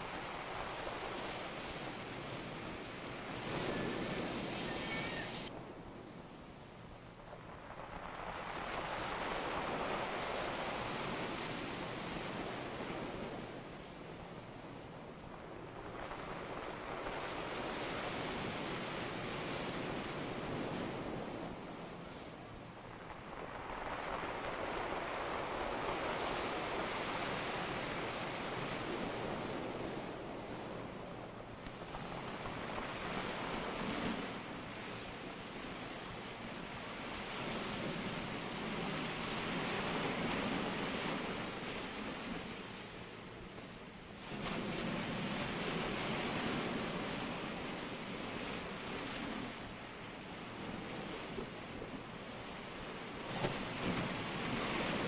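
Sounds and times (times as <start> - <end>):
ocean surf: 0.0 - 55.0
wave washing in: 0.0 - 55.0.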